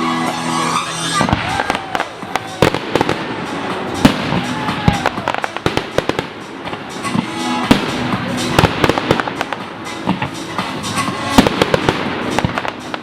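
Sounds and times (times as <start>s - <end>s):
fireworks bangs and crackling: 0.0s - 13.0s
music over loudspeakers: 0.0s - 13.0s.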